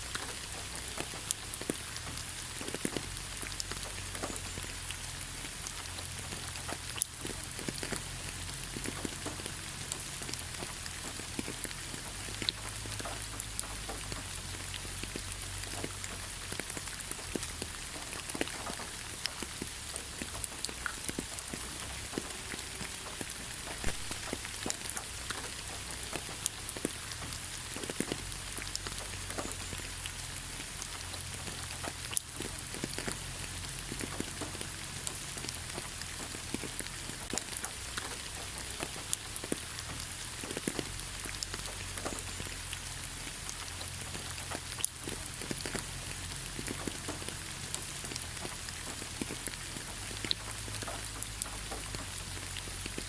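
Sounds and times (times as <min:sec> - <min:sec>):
raindrops clicking: 0:00.0 - 0:53.0
steady rain hiss: 0:00.0 - 0:53.0.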